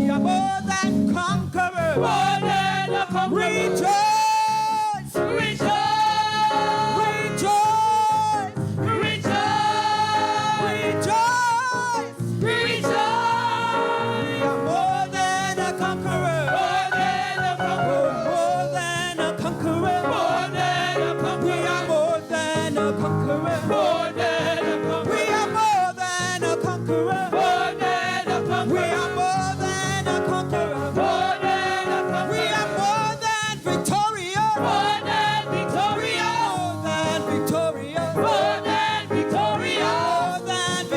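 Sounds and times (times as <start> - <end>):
gospel singing with band: 0.0 - 40.9.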